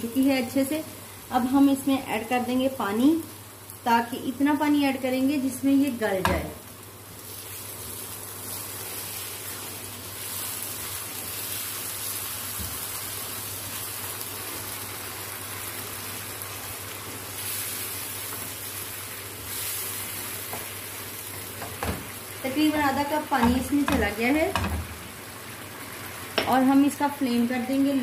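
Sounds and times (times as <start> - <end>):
oil sizzling in a wok: 0.0 - 28.0.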